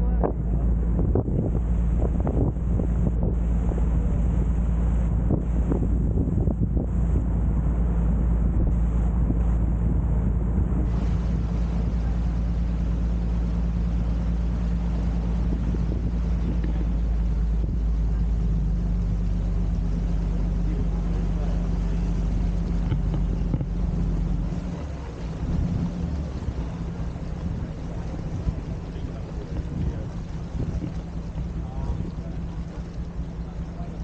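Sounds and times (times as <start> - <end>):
boat engine humming: 0.0 - 34.0
wind buffeting microphone: 0.0 - 34.0.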